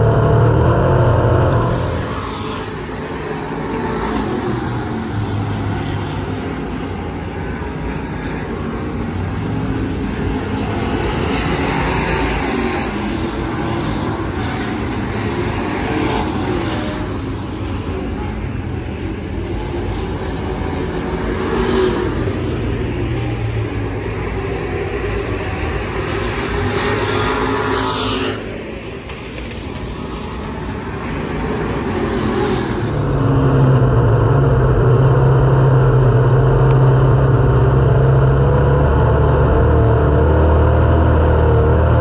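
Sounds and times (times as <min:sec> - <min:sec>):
race car engines: 0:00.0 - 0:42.0.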